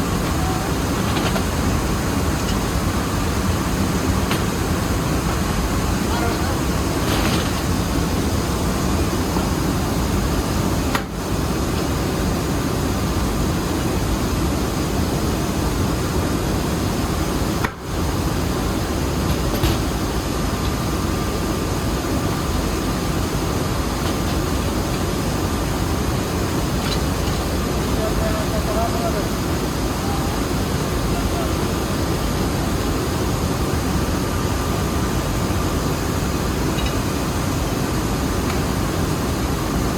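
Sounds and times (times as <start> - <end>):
mill machinery droning: 0.0 - 39.9.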